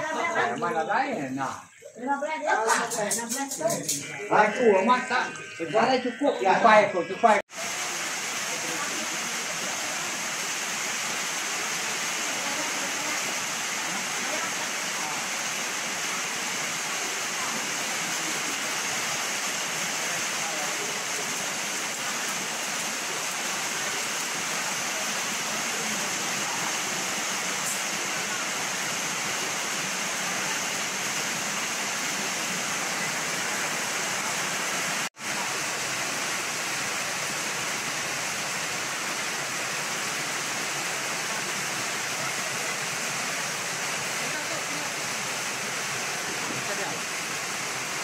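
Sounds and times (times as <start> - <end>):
steady rain falling: 7.4 - 48.0.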